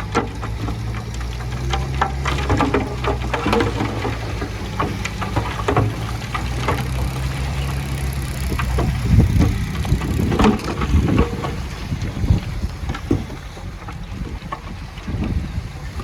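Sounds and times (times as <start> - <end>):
heavy diesel machine running: 0.0 - 14.0
irregular knocks and rumbling: 0.0 - 16.0.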